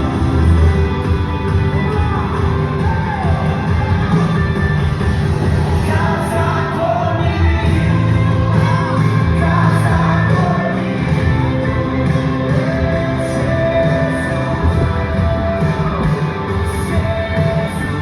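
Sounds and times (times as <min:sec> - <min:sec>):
crowd shouting: 0:00.0 - 0:18.0
live worship band with singing: 0:00.0 - 0:18.0.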